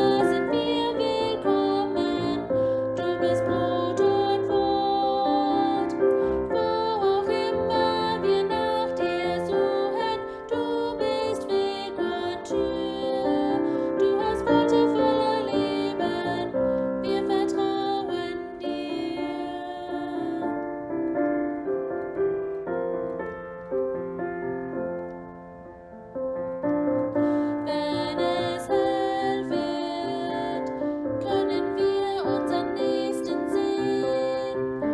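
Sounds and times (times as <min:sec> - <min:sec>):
gentle piano music: 0:00.0 - 0:34.9.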